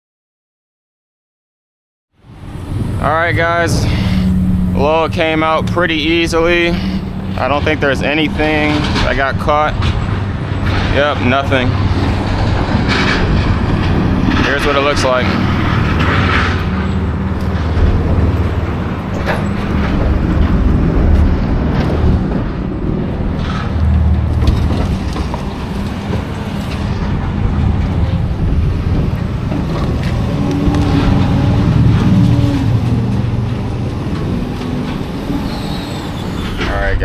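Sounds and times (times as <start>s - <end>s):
vehicle engine rumbling: 2.2s - 37.0s.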